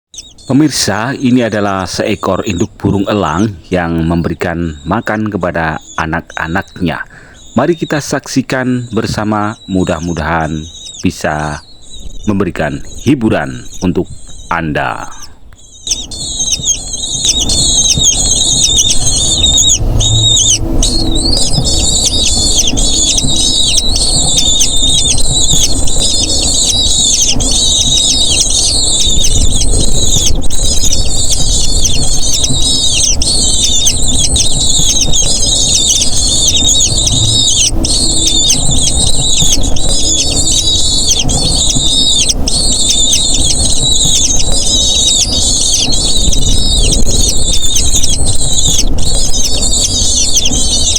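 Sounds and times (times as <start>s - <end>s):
eagle chicks squealing: 0.1s - 50.9s.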